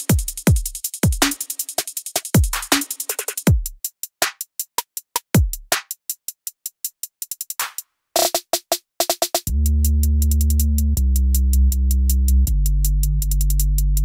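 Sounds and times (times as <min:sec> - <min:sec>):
drum machine beat: 0:00.0 - 0:14.0.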